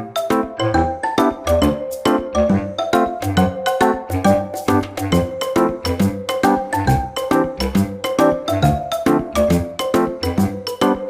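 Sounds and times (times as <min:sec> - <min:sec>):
upbeat music with bouncy beat: 0:00.0 - 0:11.0.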